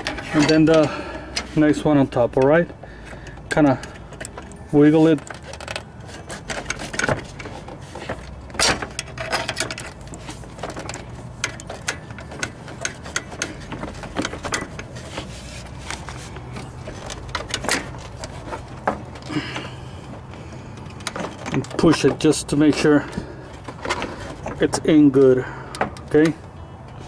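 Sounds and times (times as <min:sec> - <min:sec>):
metal line clicking and knocking: 0:00.0 - 0:27.0.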